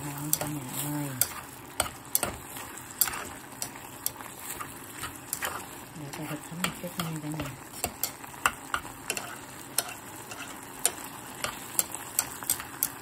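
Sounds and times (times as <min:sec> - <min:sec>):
chopsticks tapping a pan: 0:00.0 - 0:13.0
meat and onions sizzling: 0:00.0 - 0:13.0.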